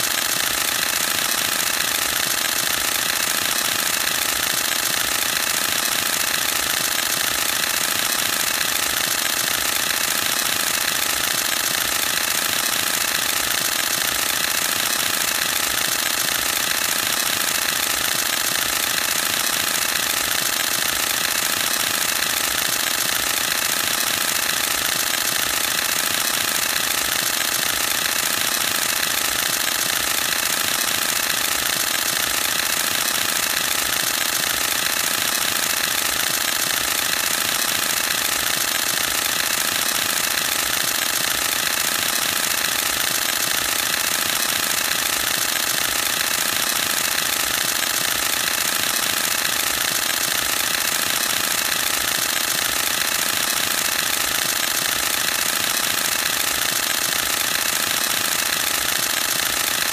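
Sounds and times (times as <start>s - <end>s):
camera shutter burst: 0.0s - 59.9s.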